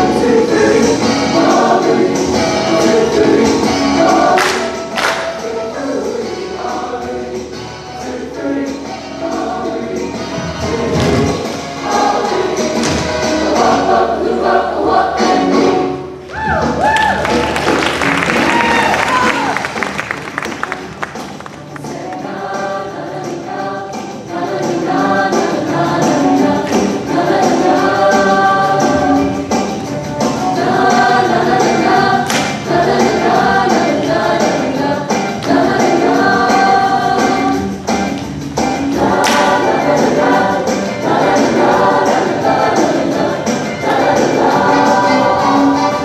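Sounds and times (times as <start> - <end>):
choir singing rock and roll: 0.0 - 16.2, 19.6 - 46.0.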